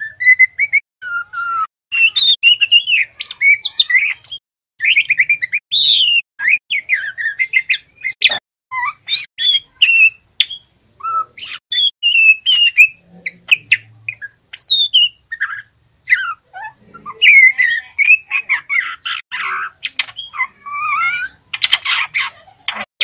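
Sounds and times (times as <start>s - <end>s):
bird twittering chirps: 0.0s - 22.9s.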